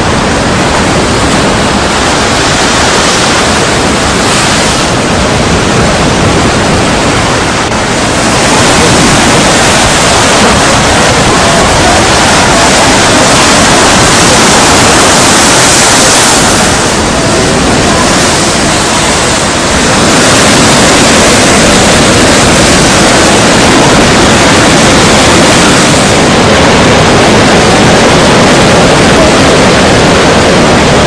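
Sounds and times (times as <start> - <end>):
rush of surf: 0.0 - 31.0
strong wind buffeting microphone: 0.0 - 31.0.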